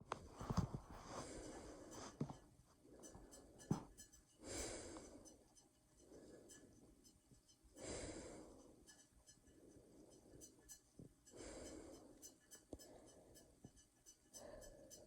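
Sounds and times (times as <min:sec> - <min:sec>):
person breathing slowly: 0:00.9 - 0:15.0.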